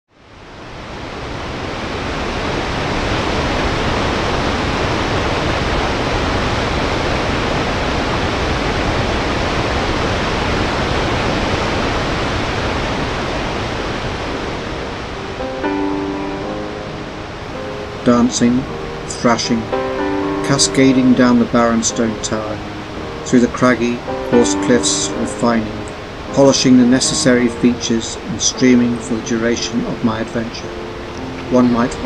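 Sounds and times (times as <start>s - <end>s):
waterfall rushing: 0.3s - 32.0s.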